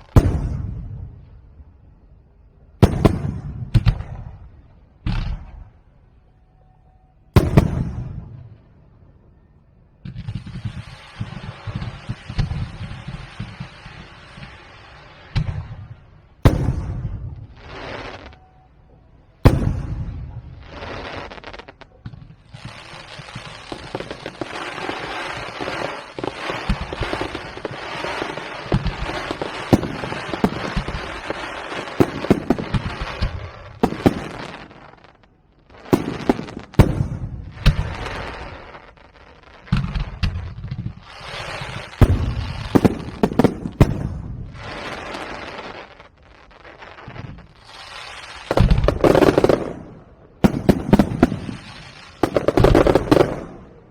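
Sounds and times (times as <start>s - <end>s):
fireworks crackling: 10.1s - 18.8s, 19.4s - 53.9s.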